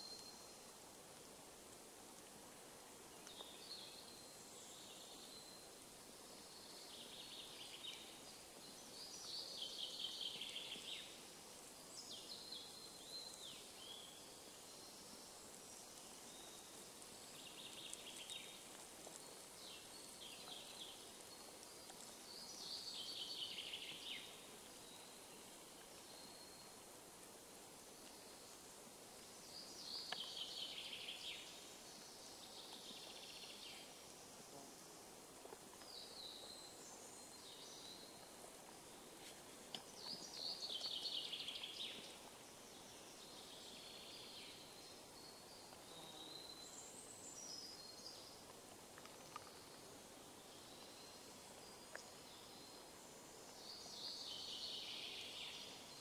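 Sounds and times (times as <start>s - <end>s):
songbird singing: 0.0s - 0.7s, 3.1s - 56.0s
faint forest background hiss: 0.0s - 56.0s.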